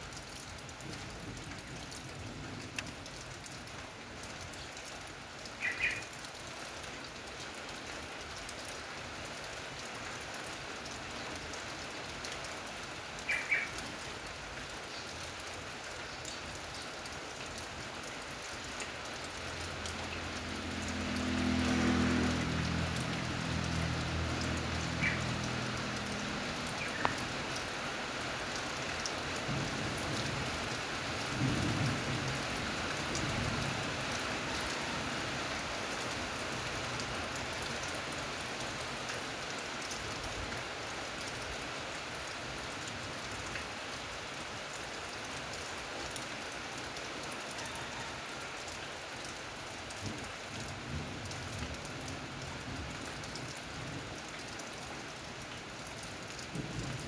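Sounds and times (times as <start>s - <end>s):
rain on metal roofs: 0.0s - 57.0s.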